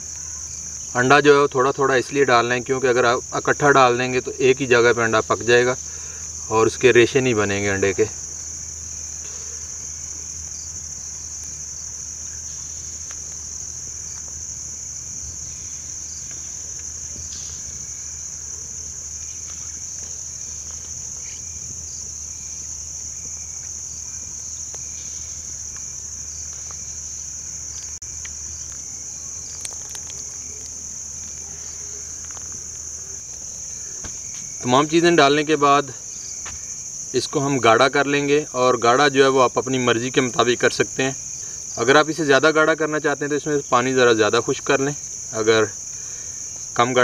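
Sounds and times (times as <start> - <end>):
crickets chirring: 0.0 - 47.0.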